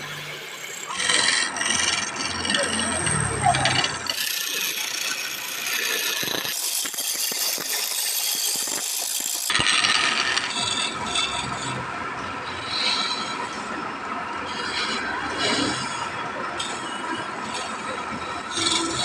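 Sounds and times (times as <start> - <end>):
wood lathe chisel scraping: 0.0 - 19.0.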